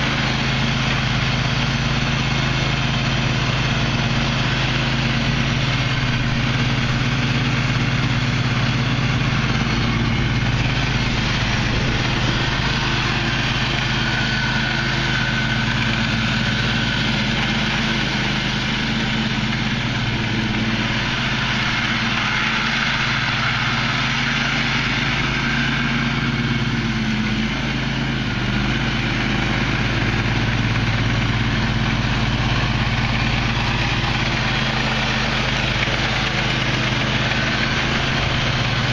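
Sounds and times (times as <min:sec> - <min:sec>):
riding mower engine running: 0:00.0 - 0:38.9.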